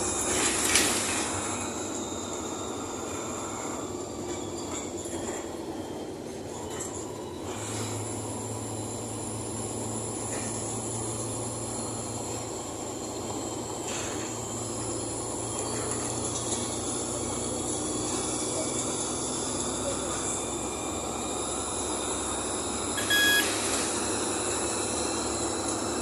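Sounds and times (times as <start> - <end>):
bus engine with road rumble: 0.0 - 26.0.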